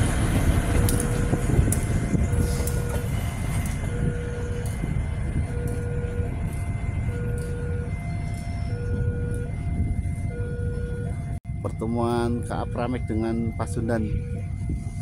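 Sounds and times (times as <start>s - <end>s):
diesel train rumble: 0.0s - 15.0s
two-tone crossing alarm chime: 0.8s - 15.0s.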